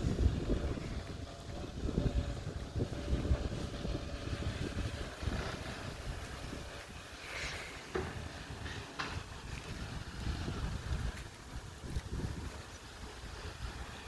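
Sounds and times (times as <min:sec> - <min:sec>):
vehicle engine rumble: 0:00.0 - 0:14.0
wind buffeting microphone: 0:00.0 - 0:14.0.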